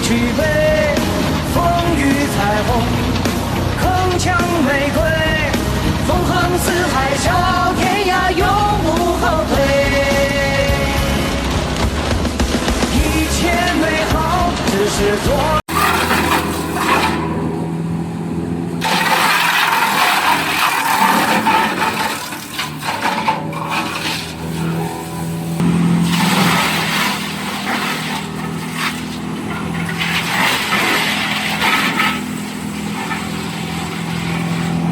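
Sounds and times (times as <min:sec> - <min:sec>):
wood chipper engine hum: 0:00.0 - 0:34.9
wood cracking and grinding: 0:00.0 - 0:34.9.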